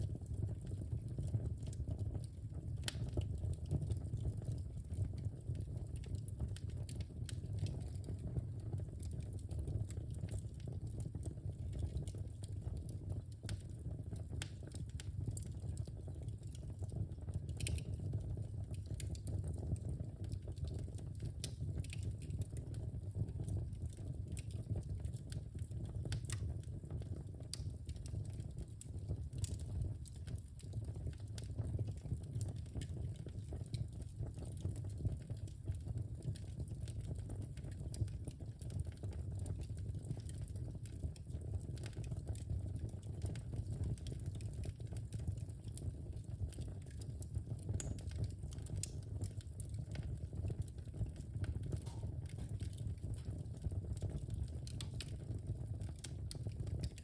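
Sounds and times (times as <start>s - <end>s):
fire low rumble: 0.0s - 57.0s
wood fire pops and snaps: 0.0s - 57.0s.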